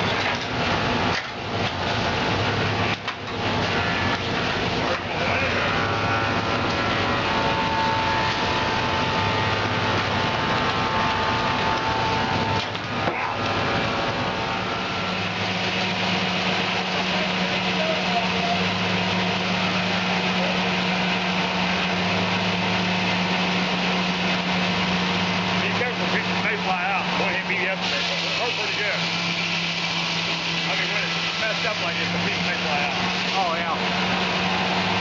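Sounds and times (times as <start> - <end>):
sawmill saw cutting log: 0.0 - 35.0.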